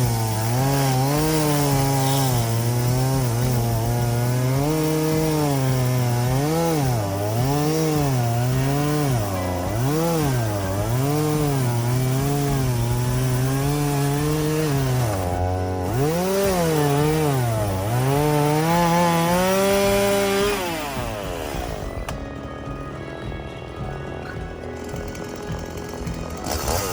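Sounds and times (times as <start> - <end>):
chainsaw cutting wood: 0.0 - 26.9.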